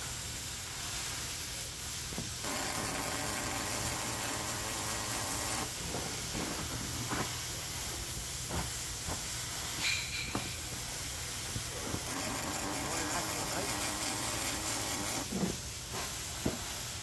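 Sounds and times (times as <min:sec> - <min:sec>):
welding arc hissing: 0:00.0 - 0:17.0.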